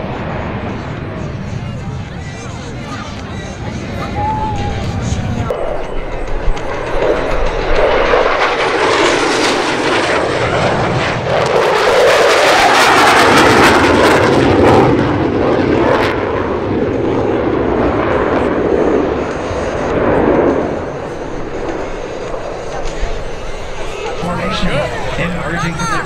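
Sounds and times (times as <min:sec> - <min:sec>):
fighter jet low pass: 0:00.0 - 0:26.0.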